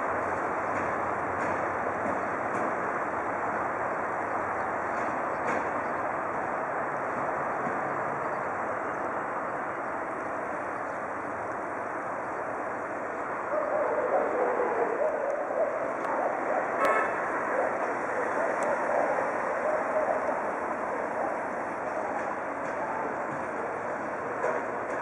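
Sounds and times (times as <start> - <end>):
train noise at station: 0.0 - 25.0.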